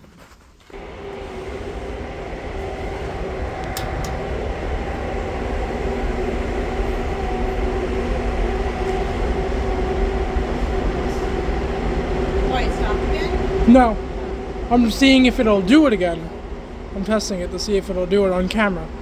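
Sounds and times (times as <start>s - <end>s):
box fan humming: 0.7s - 19.0s.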